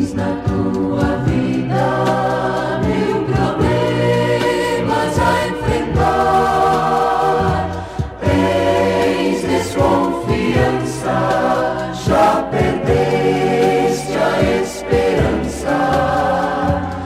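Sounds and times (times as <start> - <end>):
band accompaniment: 0.0 - 17.0
gospel choir singing: 0.0 - 17.0.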